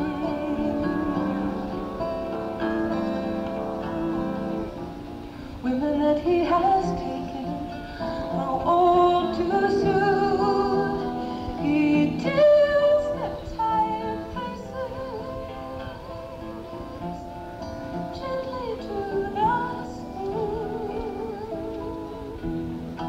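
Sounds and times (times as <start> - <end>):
acoustic guitar strumming: 0.0 - 23.0
woman singing: 0.0 - 23.0.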